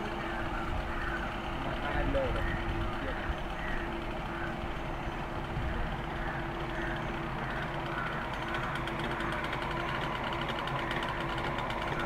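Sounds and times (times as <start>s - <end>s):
fast buzzing rattle: 0.0s - 12.0s
small engine running steadily: 0.0s - 12.0s.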